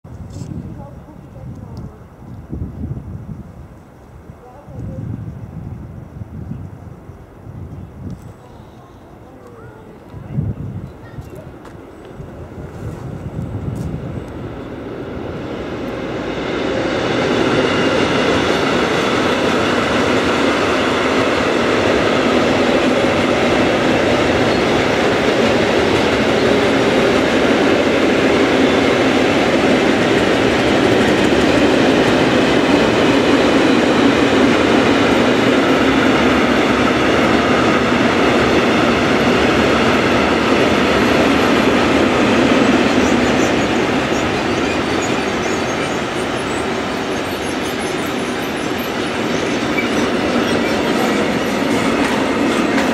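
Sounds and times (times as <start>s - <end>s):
train wheels rumbling on rails: 0.2s - 52.9s.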